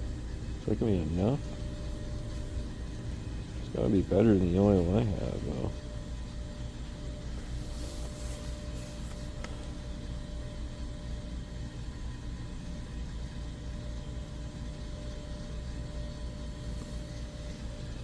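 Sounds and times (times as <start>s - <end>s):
faint constant whine: 0.0s - 18.0s
machinery hum and hiss: 0.0s - 18.0s.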